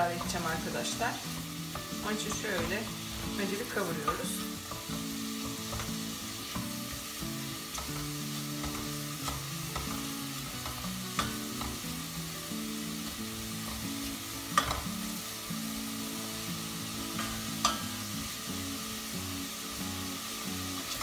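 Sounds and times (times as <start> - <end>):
mushrooms sizzling in a pot: 0.0 - 21.0.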